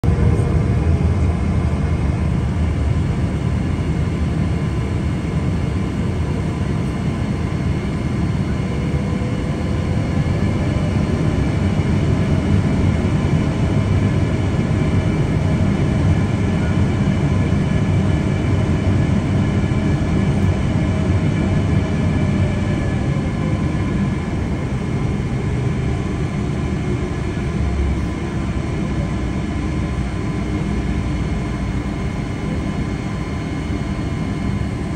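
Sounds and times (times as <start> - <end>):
airliner cabin rumble: 0.0 - 34.9.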